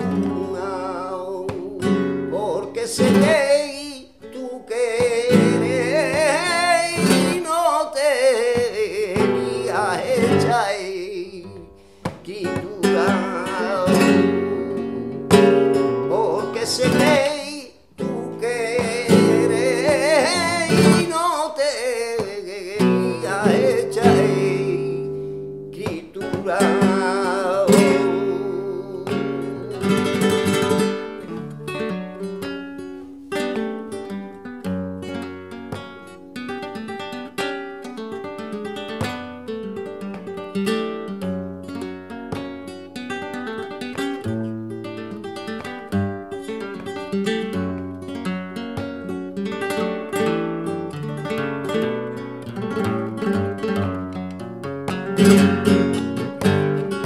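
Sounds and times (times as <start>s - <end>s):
flamenco guitar: 0.0s - 57.0s
man singing flamenco: 0.0s - 57.0s.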